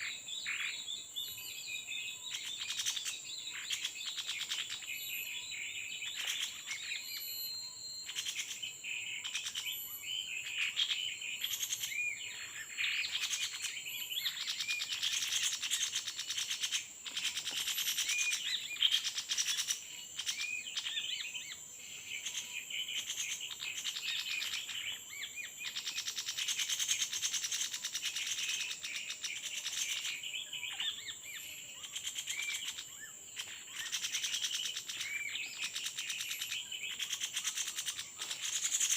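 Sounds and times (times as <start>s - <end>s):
high-pitched insect drone: 0.0s - 38.9s
small birds chirping: 0.0s - 38.9s.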